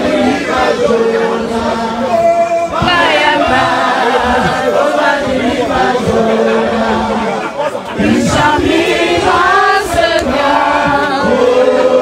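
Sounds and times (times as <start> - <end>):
crowd singing unaccompanied: 0.0 - 12.0.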